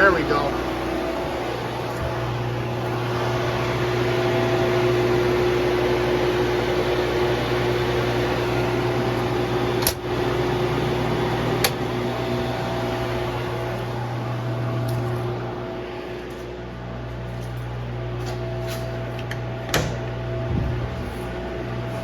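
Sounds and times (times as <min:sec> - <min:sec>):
milling machine motor hum: 0:00.0 - 0:22.0.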